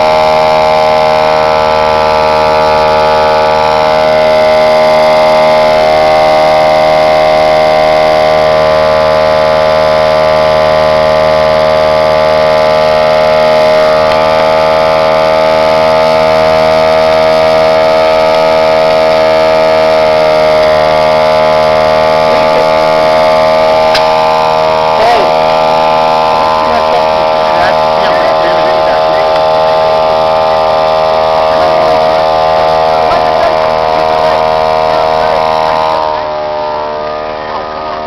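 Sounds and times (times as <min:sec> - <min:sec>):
air compressor whining: 0:00.0 - 0:38.0.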